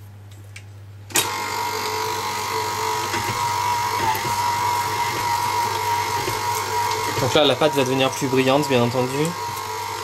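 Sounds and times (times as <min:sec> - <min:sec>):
stand mixer motor humming: 0:01.1 - 0:10.0.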